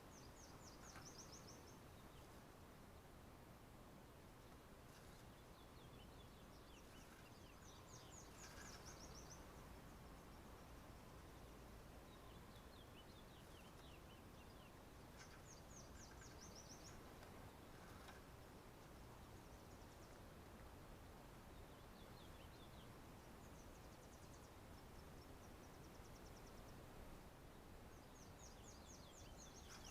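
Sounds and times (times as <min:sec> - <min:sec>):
distant birds trilling: 0:00.0 - 0:03.5, 0:04.1 - 0:29.9
faint outdoor hiss: 0:00.0 - 0:29.9.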